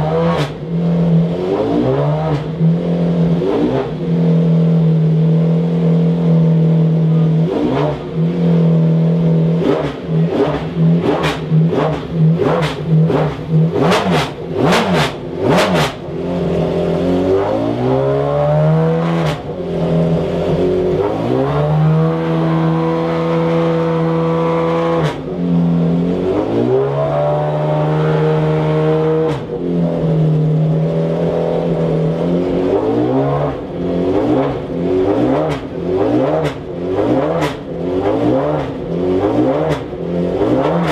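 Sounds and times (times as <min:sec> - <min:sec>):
race engine revving: 0:00.0 - 0:40.9.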